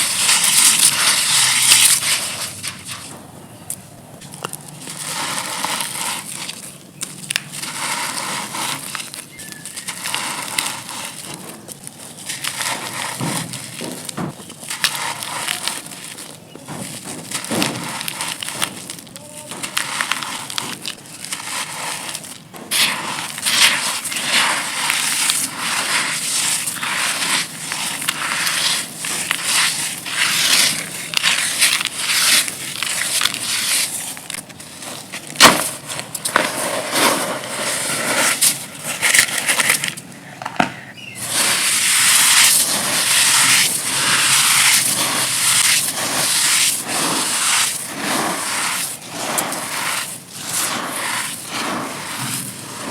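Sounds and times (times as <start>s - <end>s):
dirt cookies crunching: 0.0s - 52.9s.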